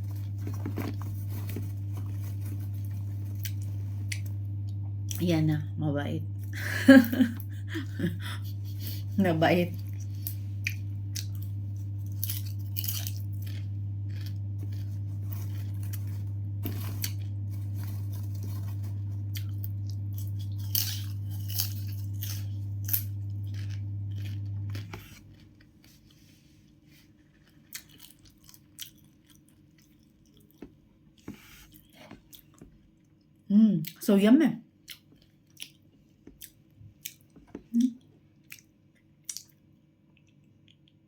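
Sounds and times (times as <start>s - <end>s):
crunchy chewing of snack food: 0.0s - 5.2s, 9.8s - 33.3s, 34.8s - 41.0s
steady low hum: 0.0s - 34.0s.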